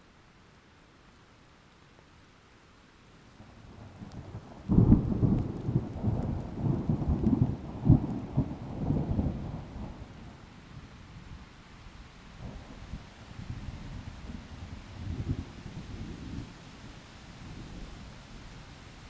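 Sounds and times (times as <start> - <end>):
faint rain hiss: 0.0 - 19.0.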